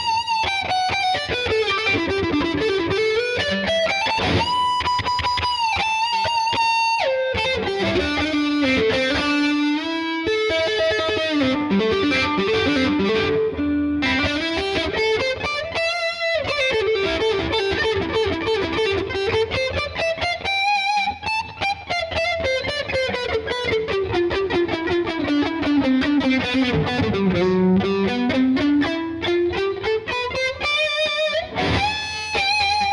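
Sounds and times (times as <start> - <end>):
distorted electric guitar lead: 0.0 - 32.9.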